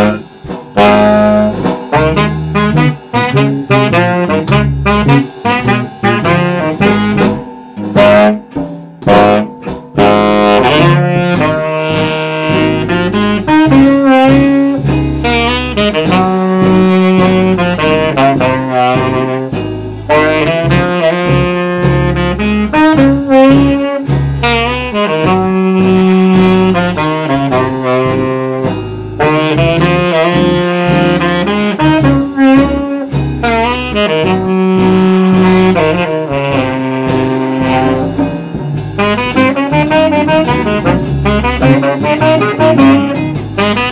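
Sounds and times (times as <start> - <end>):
electric bass guitar: 0.0 - 43.9
saxophone playing jazz: 0.0 - 43.9.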